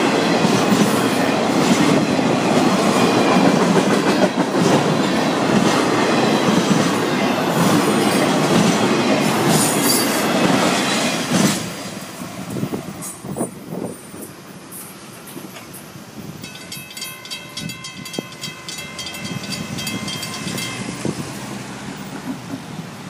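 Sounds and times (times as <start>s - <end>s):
freight train wheels clacking: 0.0s - 23.0s.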